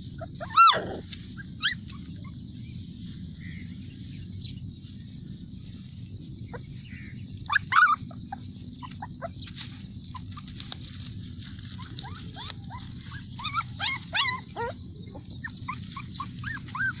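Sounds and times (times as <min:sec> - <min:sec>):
puppies whimpering and squeaking: 0:00.0 - 0:03.6, 0:05.9 - 0:17.0.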